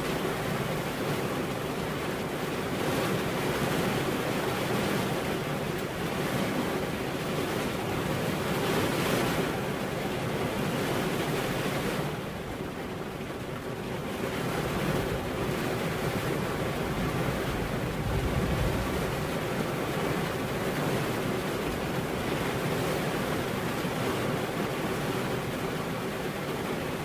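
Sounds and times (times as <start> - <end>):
heavy rainfall: 0.0 - 27.0.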